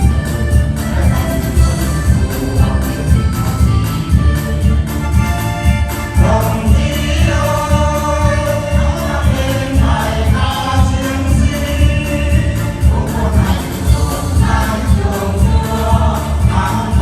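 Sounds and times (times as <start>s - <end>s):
music with steady bass beat: 0.0s - 17.0s
choir singing: 0.2s - 4.9s, 5.7s - 17.0s.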